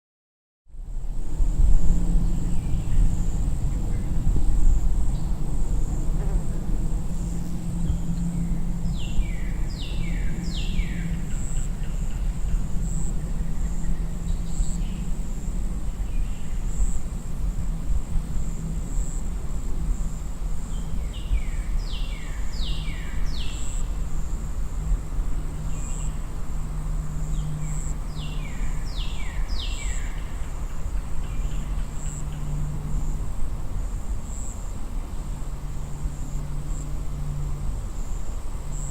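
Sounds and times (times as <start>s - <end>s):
distant vehicles rumble: 0.7s - 38.9s
high insect drone: 0.8s - 38.9s.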